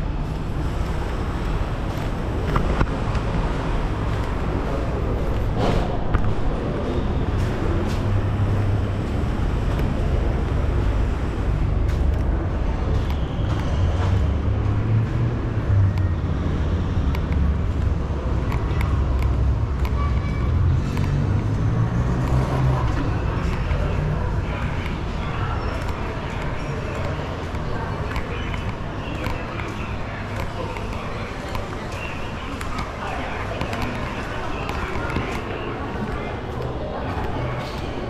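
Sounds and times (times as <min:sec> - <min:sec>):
low urban rumble: 0:00.0 - 0:38.0.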